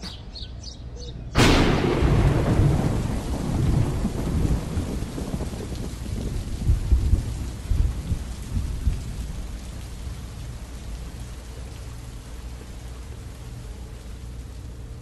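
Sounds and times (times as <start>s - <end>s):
low thunder rumbles: 1.3s - 15.0s
rain falling on sand: 1.4s - 15.0s.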